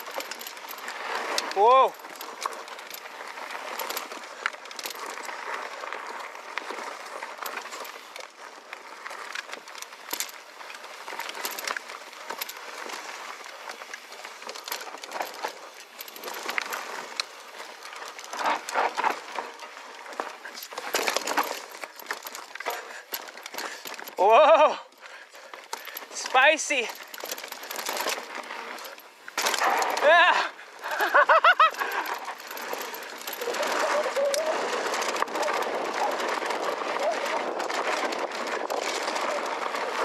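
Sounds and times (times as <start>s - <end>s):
bike clicking and rattling: 0.0s - 40.0s
bike tyres rolling over dirt: 0.0s - 40.0s.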